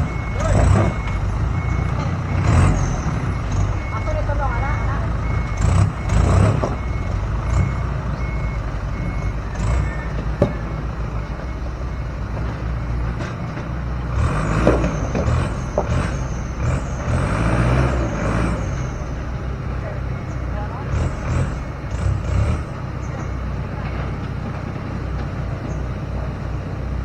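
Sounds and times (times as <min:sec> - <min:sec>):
reversing alarm beeping: 0:00.0 - 0:13.6, 0:14.2 - 0:24.8
diesel engine running: 0:00.0 - 0:27.0.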